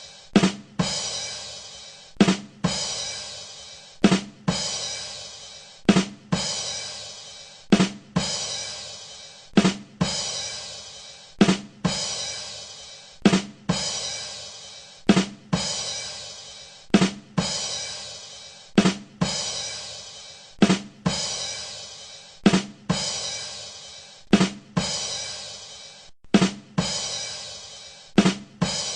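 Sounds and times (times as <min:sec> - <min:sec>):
drum rimshot sting with cymbal: 0:00.0 - 0:28.9.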